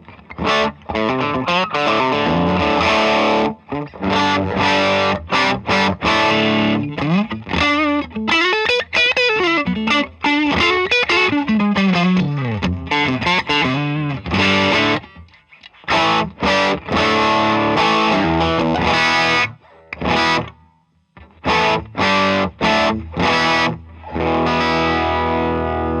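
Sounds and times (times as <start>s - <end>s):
distorted electric guitar: 0.0s - 26.0s.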